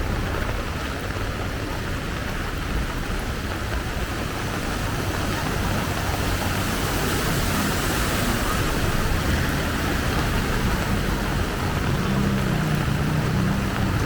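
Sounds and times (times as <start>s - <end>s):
heavy rain pouring: 0.0s - 14.0s
vehicle engine humming: 0.0s - 14.0s.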